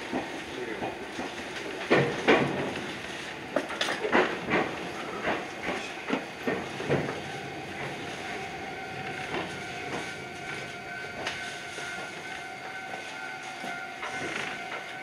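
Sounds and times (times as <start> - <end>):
electric train whine: 0.0 - 15.0
train wheels clacking over joints: 0.0 - 15.0.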